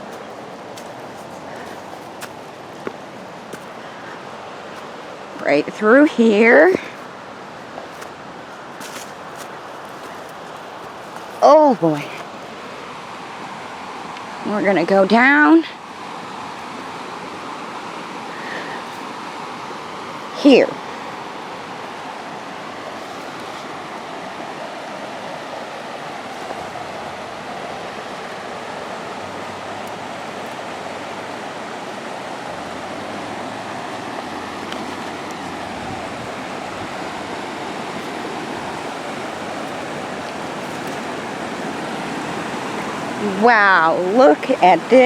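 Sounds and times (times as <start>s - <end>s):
rushing river water: 0.0s - 45.0s.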